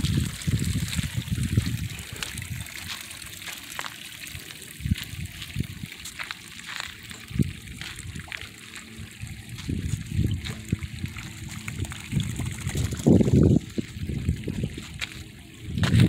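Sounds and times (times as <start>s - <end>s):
mud sloshing and splashing: 0.0s - 16.0s.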